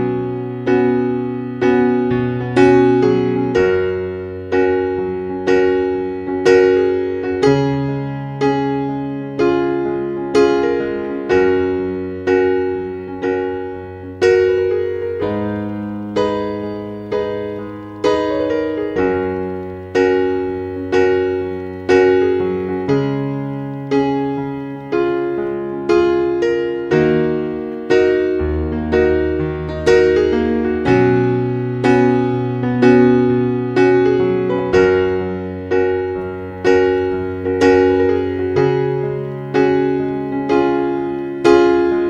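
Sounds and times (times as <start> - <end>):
gentle piano piece: 0.0 - 42.0.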